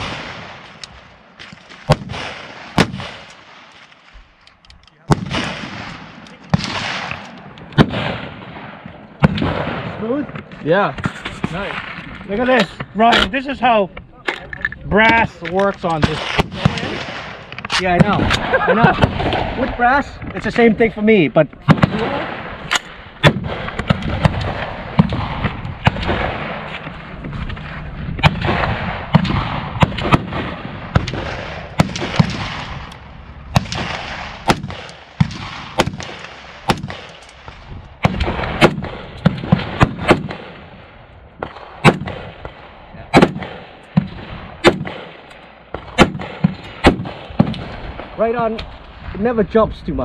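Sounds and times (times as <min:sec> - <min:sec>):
rifle gunshots: 0:00.0 - 0:03.8, 0:05.0 - 0:10.6, 0:15.0 - 0:20.9, 0:21.6 - 0:48.8.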